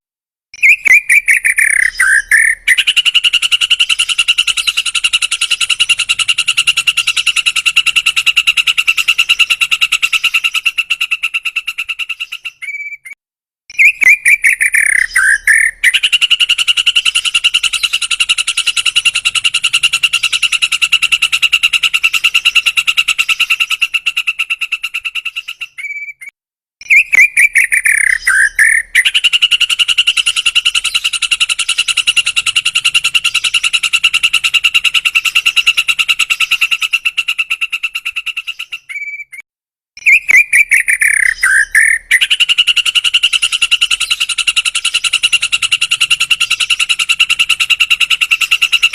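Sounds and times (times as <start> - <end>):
bird singing whistle and trill: 0.5 - 10.6, 12.0 - 23.7, 25.2 - 36.9, 38.4 - 39.4, 40.0 - 48.9.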